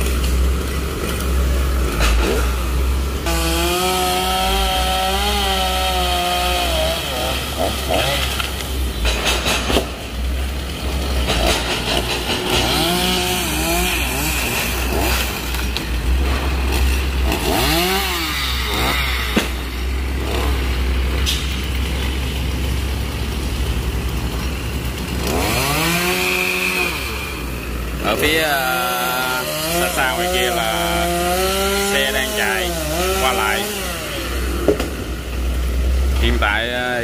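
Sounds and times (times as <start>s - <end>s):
chainsaw revving: 0.0s - 37.0s.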